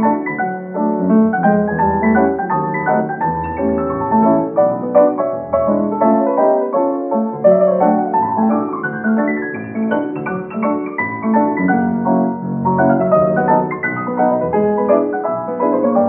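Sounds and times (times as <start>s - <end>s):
lively piano tune: 0.0s - 16.0s.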